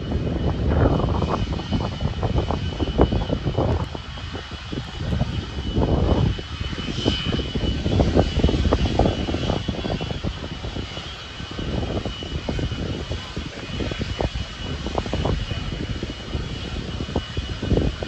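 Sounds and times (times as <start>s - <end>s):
jet engines running: 0.0s - 18.0s
wind buffeting on microphone: 0.0s - 18.0s.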